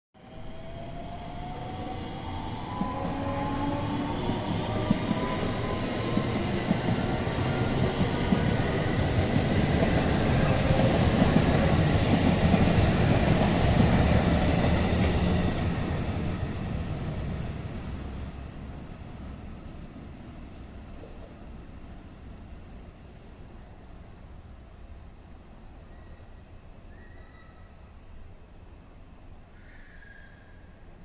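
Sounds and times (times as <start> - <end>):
train rolling rumble: 0.3 - 25.3.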